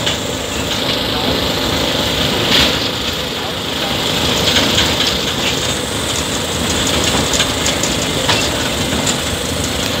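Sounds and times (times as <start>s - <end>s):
steam train rumble and hiss: 0.0s - 10.0s.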